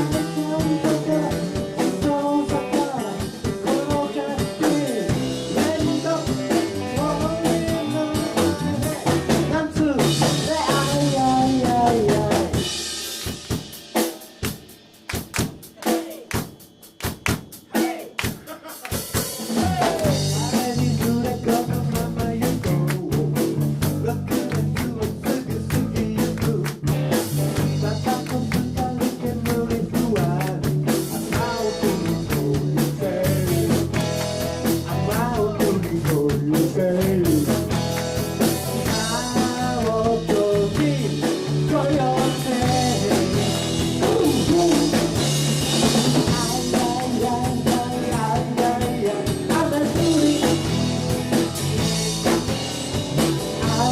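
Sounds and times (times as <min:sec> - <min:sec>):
person singing: 0:00.0 - 0:12.7, 0:15.8 - 0:16.4, 0:17.7 - 0:34.1, 0:34.8 - 0:37.7, 0:38.6 - 0:51.0, 0:53.6 - 0:53.9
live rock band playing: 0:00.0 - 0:53.9.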